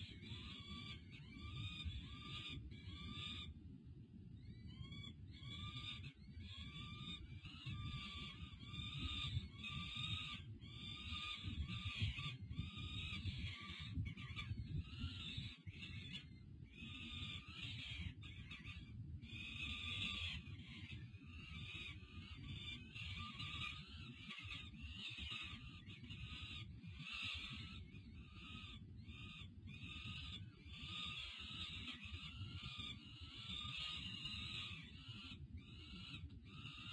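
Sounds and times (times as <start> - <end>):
falcon chicks begging calls: 0.0 - 3.6, 4.4 - 36.9.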